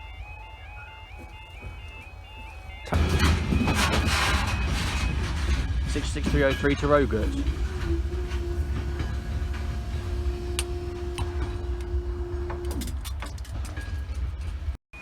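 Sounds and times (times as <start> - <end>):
constant low rumble: 0.0 - 14.8
diesel locomotive engine drone: 0.0 - 15.0
wheels clicking on rails: 0.0 - 15.0.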